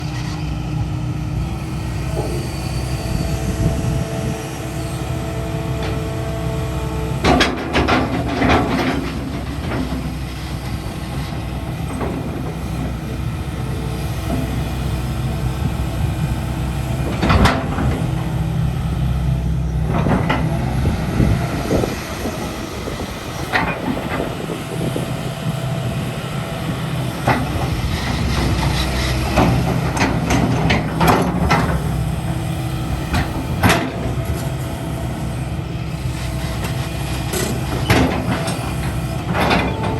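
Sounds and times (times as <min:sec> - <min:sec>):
metal tracks clanking and squealing: 0:00.0 - 0:00.5, 0:02.1 - 0:16.2, 0:16.9 - 0:18.6, 0:19.7 - 0:39.9
diesel engine running: 0:00.0 - 0:39.9.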